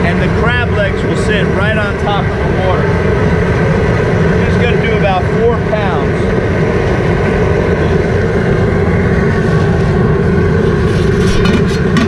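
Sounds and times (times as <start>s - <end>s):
propane jet burner roaring: 0.0s - 12.0s.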